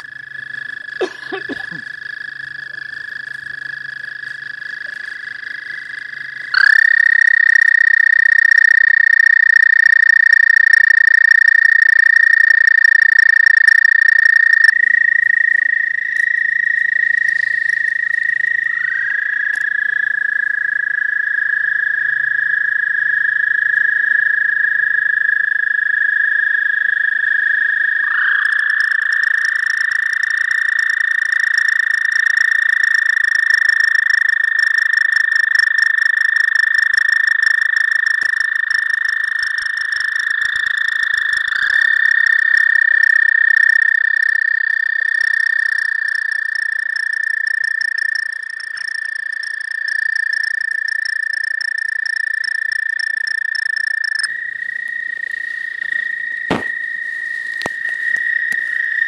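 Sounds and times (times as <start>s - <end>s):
toads trilling: 0.0s - 59.0s.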